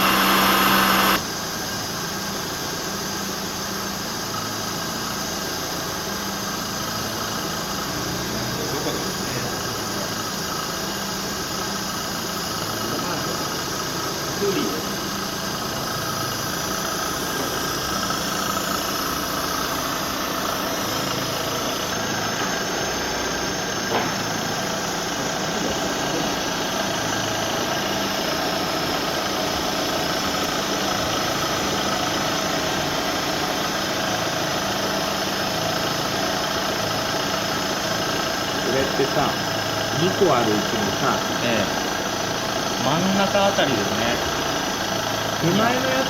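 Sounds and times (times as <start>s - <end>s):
car engine idling: 2.4s - 46.0s.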